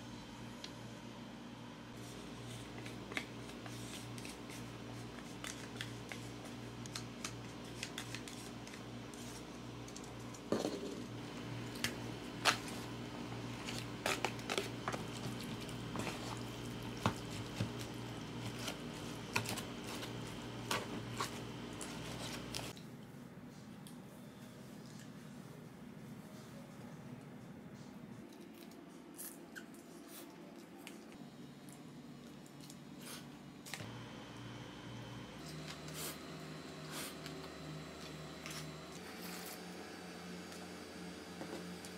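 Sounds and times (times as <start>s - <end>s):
steady low hum: 0.0s - 23.5s, 30.4s - 41.9s.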